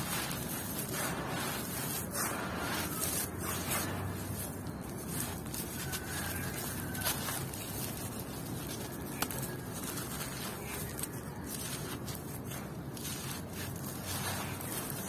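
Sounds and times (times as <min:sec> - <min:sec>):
falling grit trickling: 0:00.0 - 0:15.0
hands crumbling dry soil: 0:00.0 - 0:15.0.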